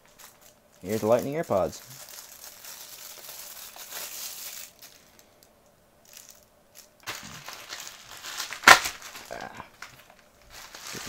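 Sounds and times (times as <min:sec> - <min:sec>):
bubble mailer rustling: 0:00.0 - 0:11.0
plastic bag crinkling: 0:00.0 - 0:11.0.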